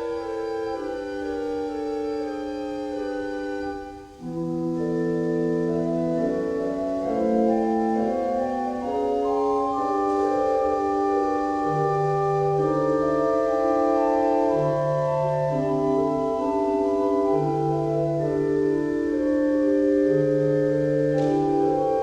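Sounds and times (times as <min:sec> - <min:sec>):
organ playing sustained chords: 0:00.0 - 0:22.0.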